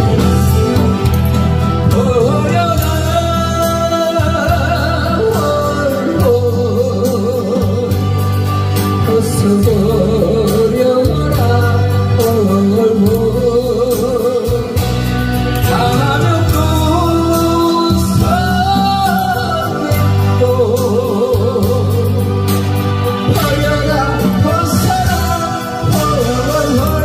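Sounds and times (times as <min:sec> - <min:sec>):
amplified backing music: 0:00.0 - 0:27.0
man singing with vibrato: 0:00.0 - 0:27.0.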